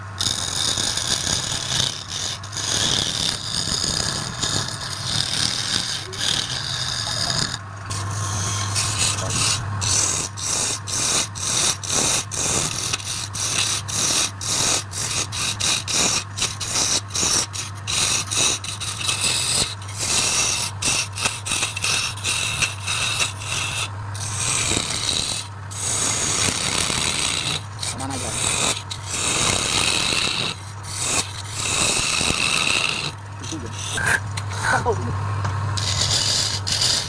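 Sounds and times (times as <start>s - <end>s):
turning tool scraping wood: 0.0s - 34.9s, 35.8s - 37.0s
wood lathe motor hum: 0.0s - 37.0s.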